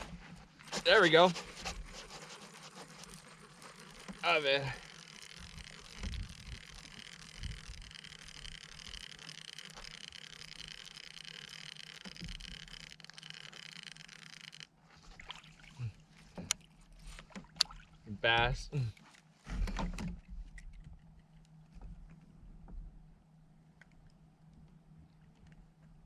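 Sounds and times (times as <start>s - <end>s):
water lapping against kayak hull: 0.0s - 23.0s.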